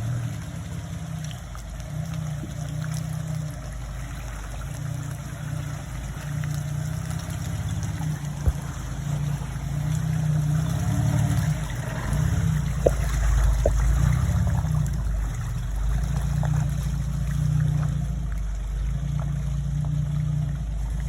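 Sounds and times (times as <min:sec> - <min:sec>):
car engine at low revs: 0:00.0 - 0:21.0
water splashing and trickling: 0:00.0 - 0:21.0.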